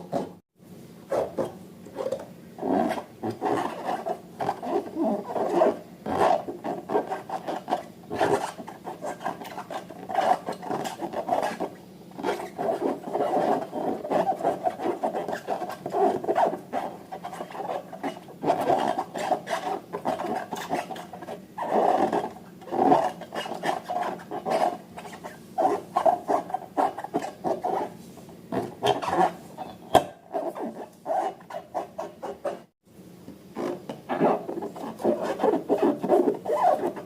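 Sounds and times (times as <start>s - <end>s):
rubbing and squishing balloons and slime: 2.6s - 32.7s, 33.6s - 37.0s.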